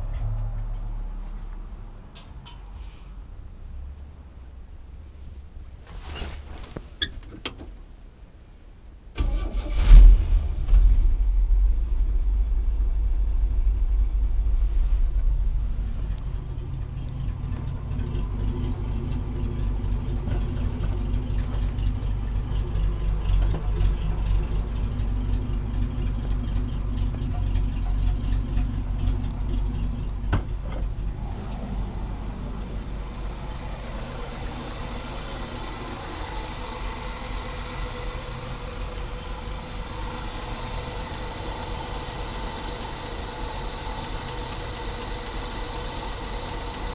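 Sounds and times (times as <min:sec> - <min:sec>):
engine starting and idling: 0:09.2 - 0:46.9.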